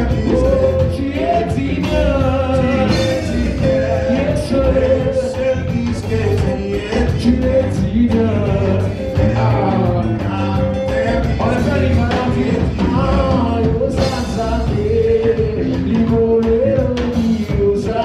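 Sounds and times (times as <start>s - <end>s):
bass: 0.0s - 18.0s
steady drum beat: 0.0s - 18.0s
voices singing held notes: 0.0s - 18.0s.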